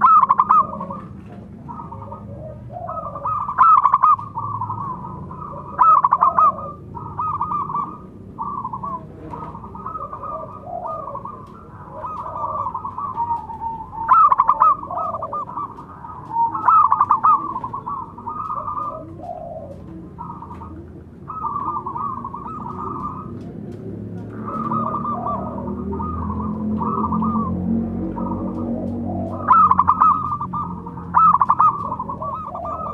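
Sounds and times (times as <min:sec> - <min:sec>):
doves cooing: 0:00.0 - 0:32.9.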